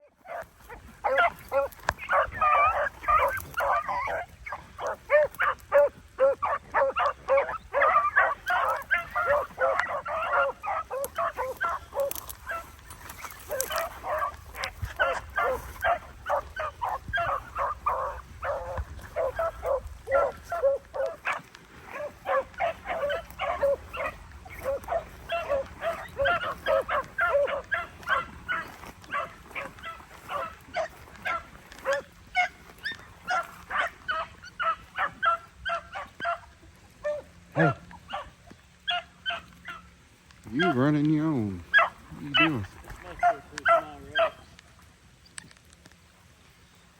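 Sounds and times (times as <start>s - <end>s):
dogs baying and barking: 0.0s - 46.0s.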